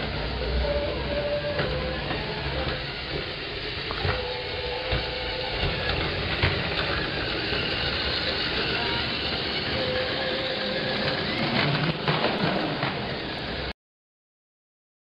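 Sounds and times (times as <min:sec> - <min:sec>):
toy train motor whirring and rattling: 0:00.0 - 0:13.7.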